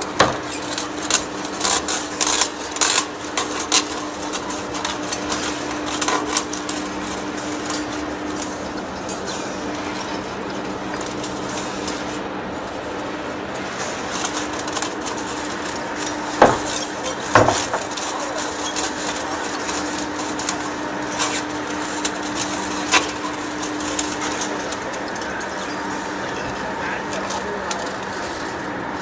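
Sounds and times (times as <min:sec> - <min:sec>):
metal lathe running with low hum: 0:00.0 - 0:29.0.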